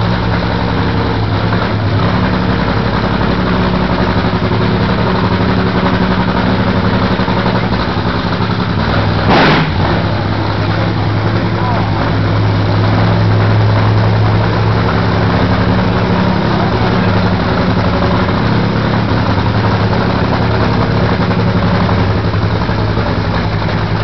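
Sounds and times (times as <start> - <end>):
race car engine idling loudly: 0.0 - 24.0.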